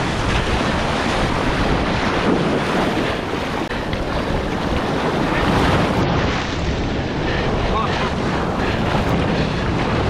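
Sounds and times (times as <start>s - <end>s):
surf washing in shallows: 0.0s - 10.0s
wind buffeting microphone: 0.0s - 10.0s.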